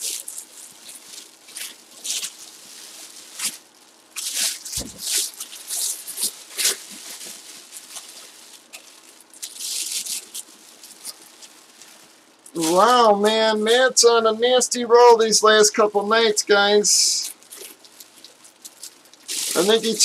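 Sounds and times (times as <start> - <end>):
plastic bag crinkling: 0.0 - 14.2, 17.2 - 20.0.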